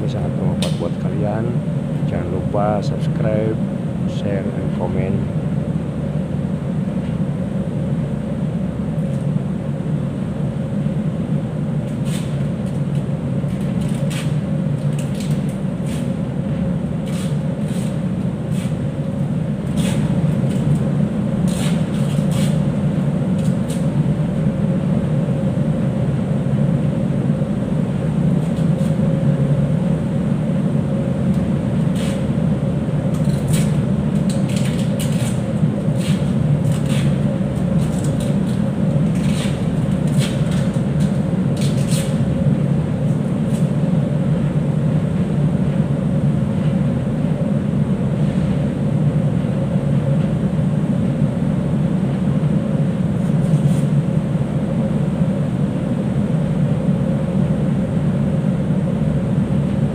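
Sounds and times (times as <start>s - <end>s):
ship machinery drone: 0.0s - 59.9s.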